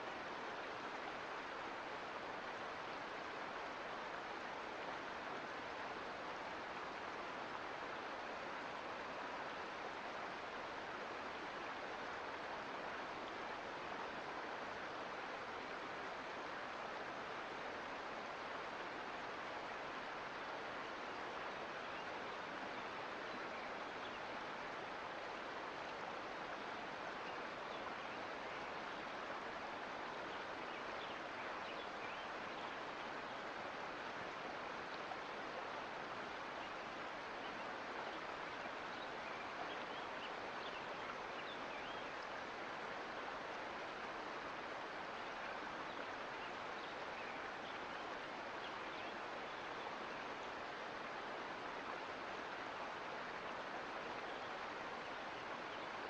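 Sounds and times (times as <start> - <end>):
mountain creek flowing: 0.0 - 56.0.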